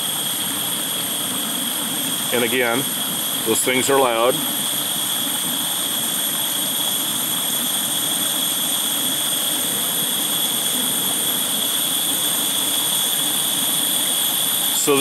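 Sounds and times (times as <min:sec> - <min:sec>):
gas stove rushing hiss: 0:00.0 - 0:15.0.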